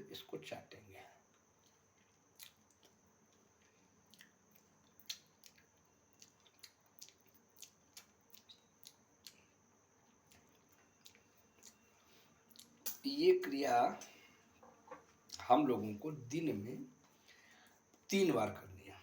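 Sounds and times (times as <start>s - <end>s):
faint high hum: 0.0s - 19.0s.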